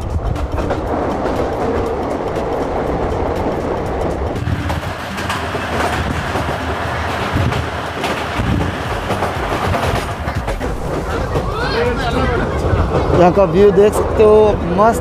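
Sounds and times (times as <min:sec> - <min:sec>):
train rumbling: 0:00.0 - 0:15.0
wheels clattering over rails: 0:00.0 - 0:15.0.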